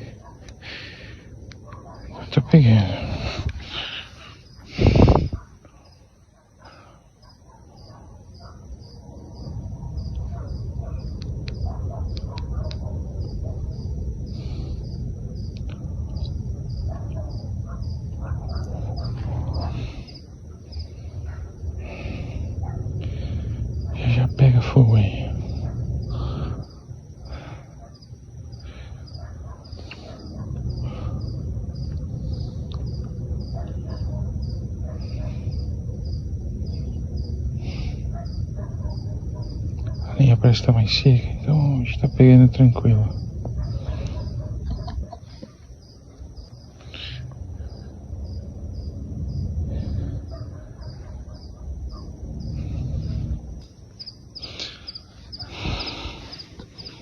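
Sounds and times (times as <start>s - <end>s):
insects chirping: 0.0s - 57.0s
low rumble: 7.7s - 57.0s.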